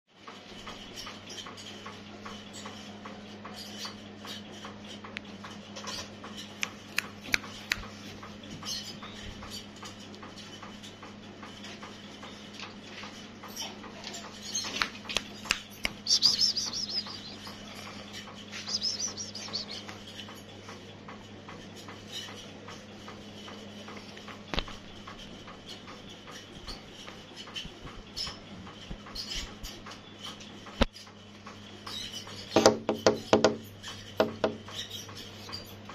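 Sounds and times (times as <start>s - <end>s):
low electrical hum: 0.2s - 35.9s.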